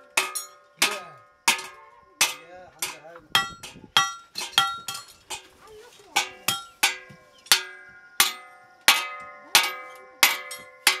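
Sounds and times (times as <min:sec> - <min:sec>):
hammer striking metal: 0:00.0 - 0:05.4, 0:06.2 - 0:11.0.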